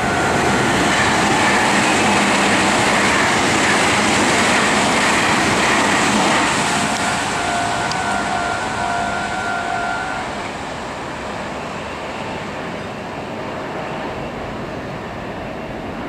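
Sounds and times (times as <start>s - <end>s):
steady warning tones: 0.0s - 13.4s
electric train rumble: 0.0s - 16.0s.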